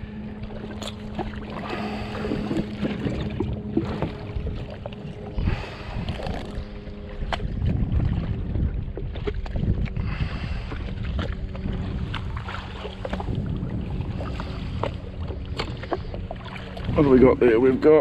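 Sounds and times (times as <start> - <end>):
steady low hum: 0.0 - 18.0
water lapping: 0.0 - 18.0
wind: 0.0 - 18.0.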